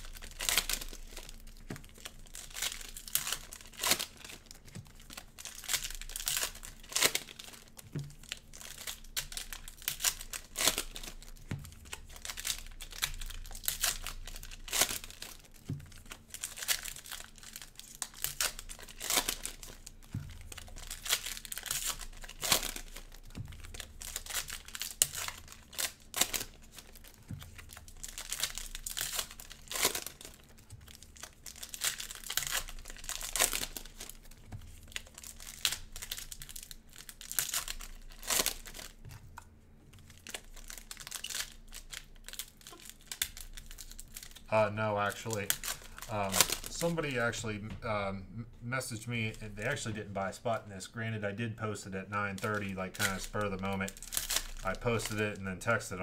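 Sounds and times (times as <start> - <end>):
cellophane wrappers crinkling and tearing: 0.0 - 48.0, 48.9 - 56.0.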